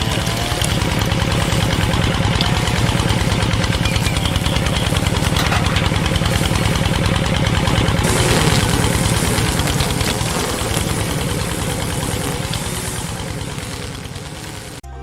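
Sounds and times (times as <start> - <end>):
small machine motor rattling: 0.0 - 14.8.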